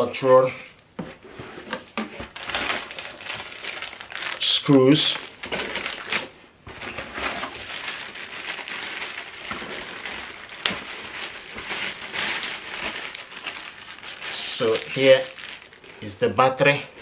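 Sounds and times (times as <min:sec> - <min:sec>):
packaging crinkling: 0:01.7 - 0:16.1.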